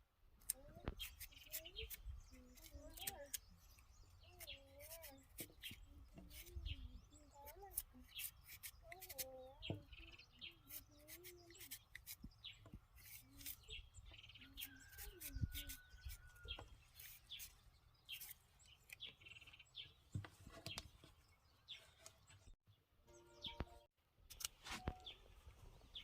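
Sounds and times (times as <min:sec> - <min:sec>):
birds chirping: 0:00.5 - 0:23.9, 0:24.8 - 0:26.0.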